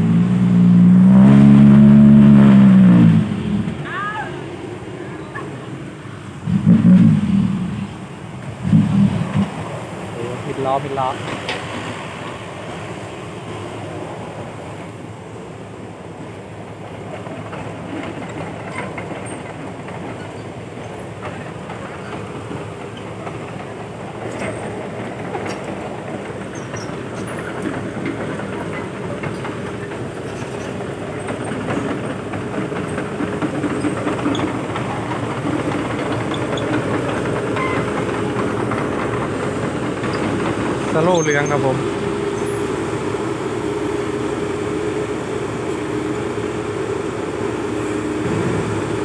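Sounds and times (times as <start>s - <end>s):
diesel machinery clattering: 0.0s - 49.0s.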